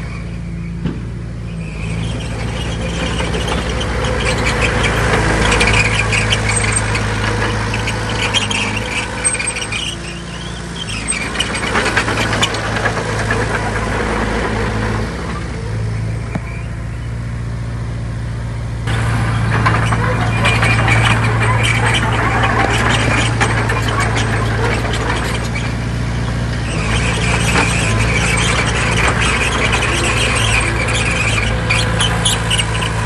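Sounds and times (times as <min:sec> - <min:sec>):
metallic clanking and squeaking: 0:00.0 - 0:17.4, 0:18.6 - 0:33.0
diesel engine drone: 0:00.0 - 0:33.0.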